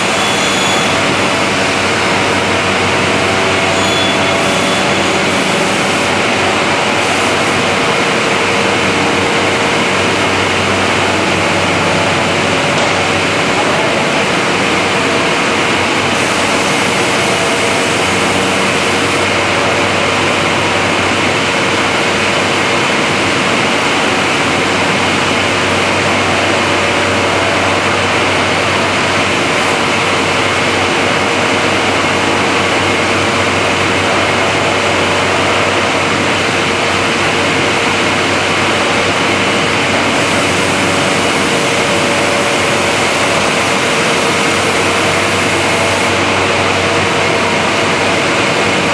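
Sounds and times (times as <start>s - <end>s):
cutting machine running: 0.0s - 48.9s.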